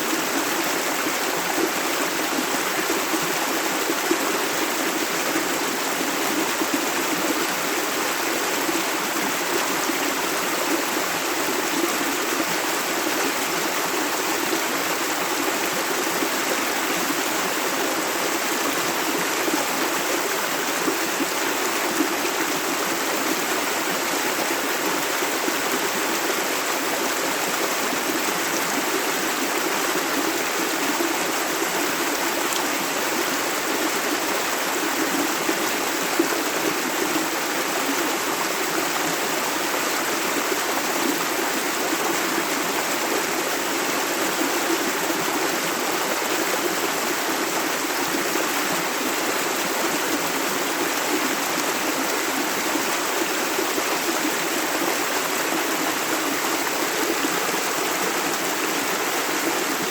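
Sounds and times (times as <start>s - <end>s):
river running over stones: 0.0s - 59.9s.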